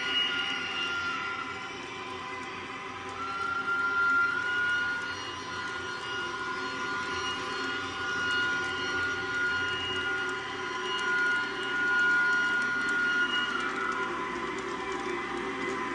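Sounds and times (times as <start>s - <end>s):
high whine: 0.0s - 15.9s.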